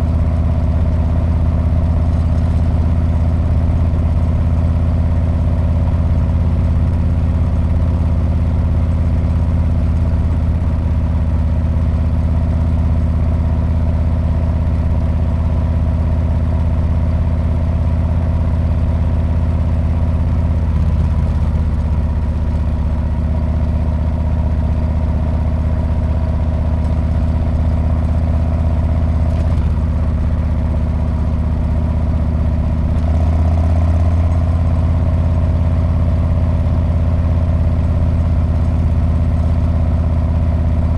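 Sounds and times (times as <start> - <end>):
motorcycle exhaust running steadily: 0.0 - 40.9.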